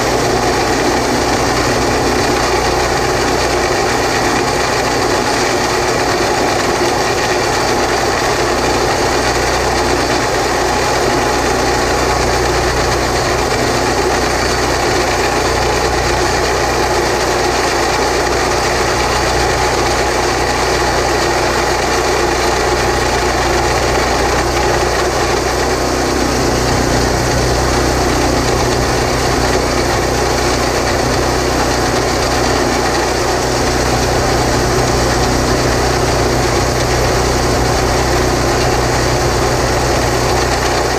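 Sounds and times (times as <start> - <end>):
boring machine running: 0.0 - 40.9
cutter grinding through concrete: 0.0 - 40.9.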